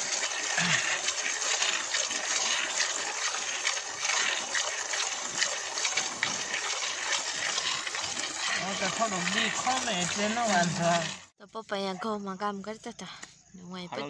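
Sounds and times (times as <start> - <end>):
milk squirting into metal pot: 0.0 - 11.3.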